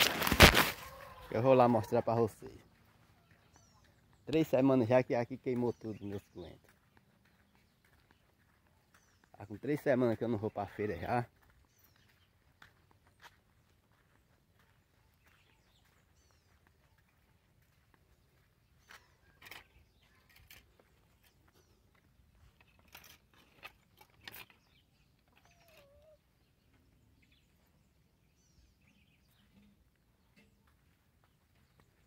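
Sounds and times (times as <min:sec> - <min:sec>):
faint bird chirps: 0:02.8 - 0:32.0.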